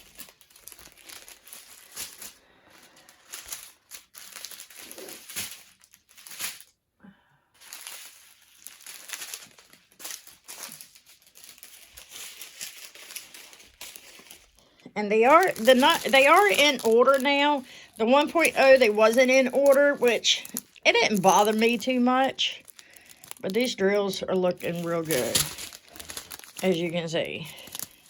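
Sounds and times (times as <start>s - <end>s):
plastic bags crinkling: 0.0s - 6.8s, 7.6s - 28.0s.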